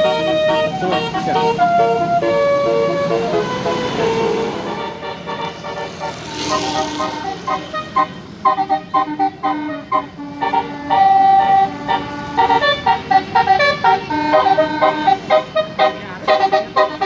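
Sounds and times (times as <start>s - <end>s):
musical air horn melody: 0.0s - 17.0s.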